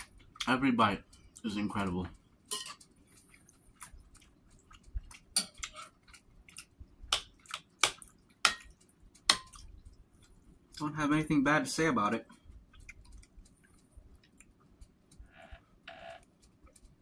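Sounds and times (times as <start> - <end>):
chewing and wet mouth sounds: 0.0 - 10.9, 12.2 - 15.3, 16.2 - 17.0.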